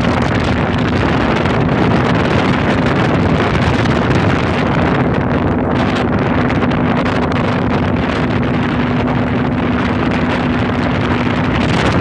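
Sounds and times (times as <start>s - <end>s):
boat motor running: 0.0s - 12.0s
wind on microphone: 0.0s - 12.0s.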